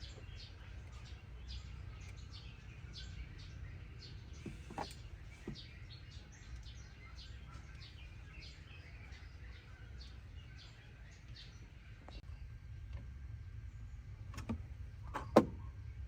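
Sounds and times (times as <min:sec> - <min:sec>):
faint bird chirping: 0:00.0 - 0:14.2.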